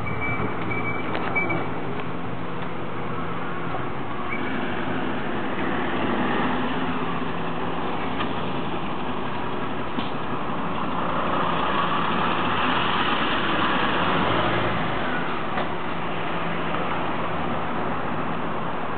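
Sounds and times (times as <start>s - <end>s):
bus diesel engine: 0.0s - 18.9s.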